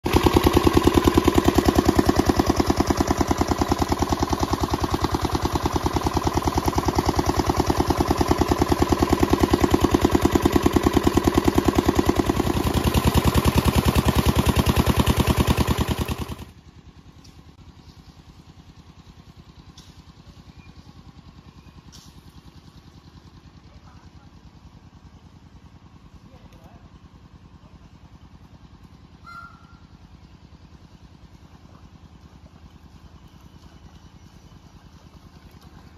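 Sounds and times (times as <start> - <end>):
small engine running: 0.0 - 35.9.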